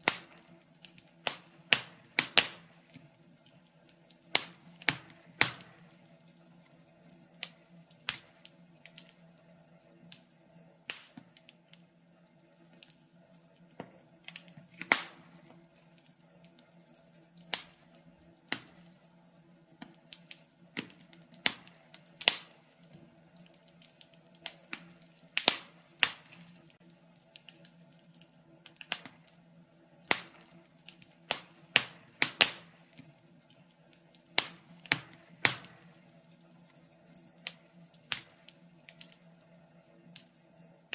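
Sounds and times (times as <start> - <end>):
faint steady hum: 0.0 - 40.9
wood fire crackling and popping: 0.0 - 40.9.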